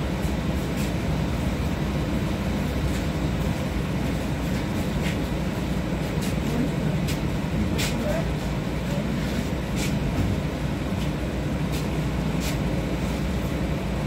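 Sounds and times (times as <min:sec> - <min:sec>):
tram interior hum: 0:00.0 - 0:14.0.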